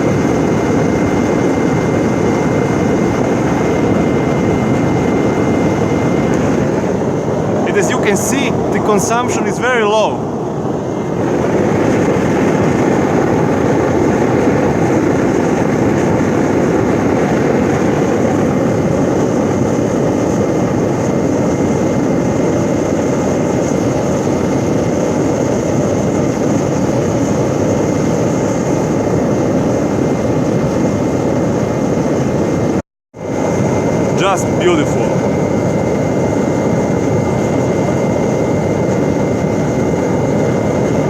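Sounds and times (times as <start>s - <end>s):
blower high whine: 0.0s - 41.0s
oil burner roaring: 0.0s - 41.0s.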